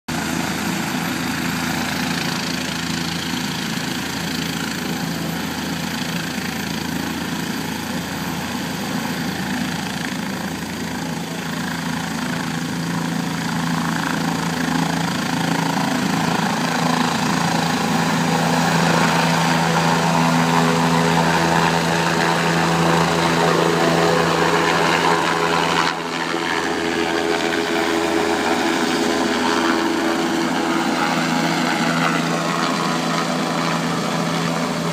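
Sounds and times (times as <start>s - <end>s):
helicopter engine and rotor: 0.1s - 34.9s.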